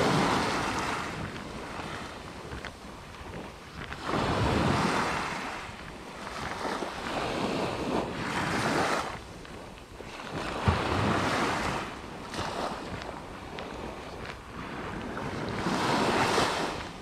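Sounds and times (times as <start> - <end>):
sea waves breaking: 0.0 - 17.0
wind buffeting microphone: 0.0 - 17.0.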